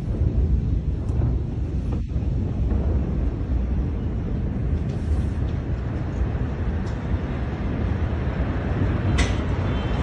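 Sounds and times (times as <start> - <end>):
low rumbling: 0.0 - 10.0.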